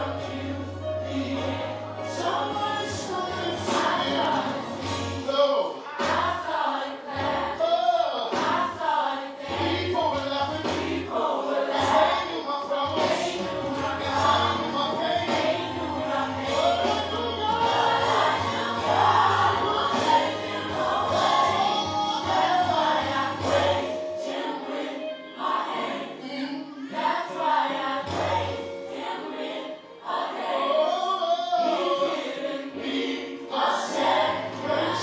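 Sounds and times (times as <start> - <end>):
band playing: 0.0 - 6.4, 9.5 - 35.0
choir singing gospel: 0.0 - 35.0.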